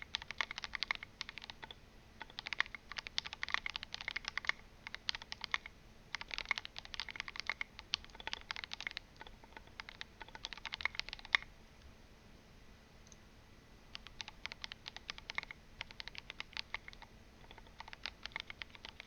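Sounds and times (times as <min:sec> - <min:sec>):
fast mechanical keyboard typing: 0:00.0 - 0:11.5, 0:13.9 - 0:19.0.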